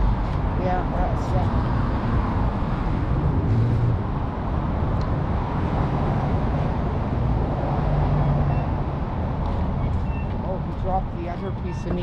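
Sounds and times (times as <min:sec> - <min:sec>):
vehicles passing and idling: 0:00.0 - 0:12.0.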